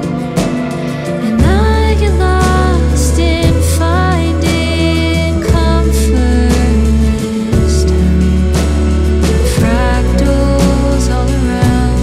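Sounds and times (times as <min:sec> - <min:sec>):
drum strokes: 0:00.0 - 0:12.0
steady bass: 0:00.0 - 0:12.0.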